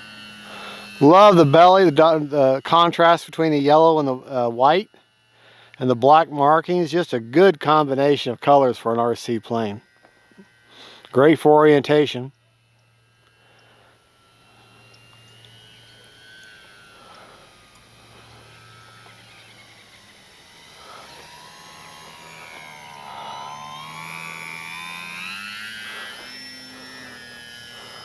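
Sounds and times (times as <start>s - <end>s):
model plane motor whining: 0.0s - 28.0s.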